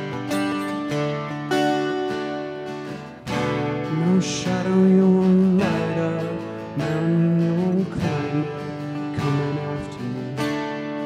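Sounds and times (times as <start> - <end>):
acoustic guitars strummed: 0.0 - 11.0.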